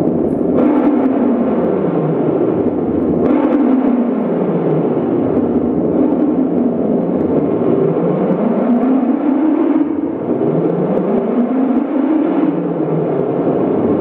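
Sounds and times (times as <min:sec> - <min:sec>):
electronic drone: 0:00.0 - 0:14.0.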